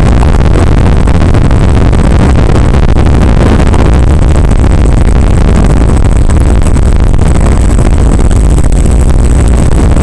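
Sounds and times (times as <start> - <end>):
distorted rushing noise: 0.0 - 10.0.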